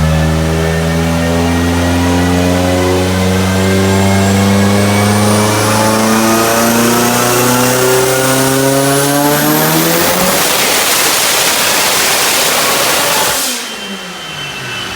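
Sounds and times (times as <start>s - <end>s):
car engine accelerating: 0.0s - 14.9s
faint high whine: 0.0s - 14.9s.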